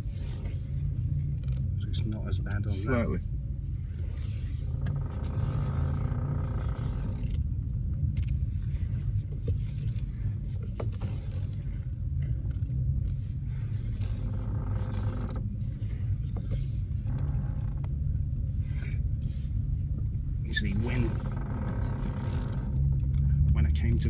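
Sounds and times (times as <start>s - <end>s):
car cabin low rumble: 0.0s - 24.0s
steering groaning: 0.0s - 24.0s.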